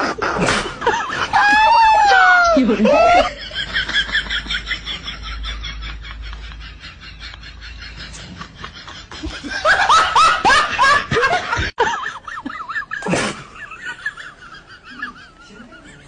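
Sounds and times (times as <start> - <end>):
person laughing hard: 0.0 - 16.0.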